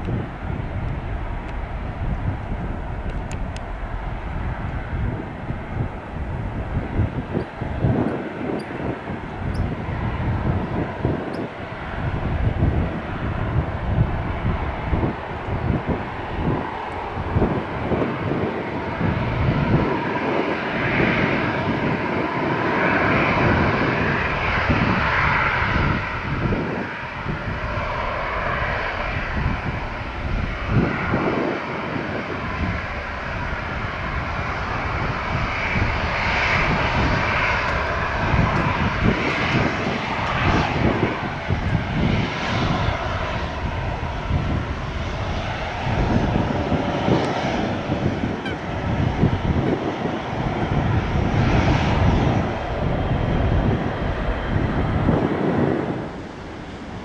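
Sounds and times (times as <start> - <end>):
jet engines rumbling at take-off: 0.0 - 57.0.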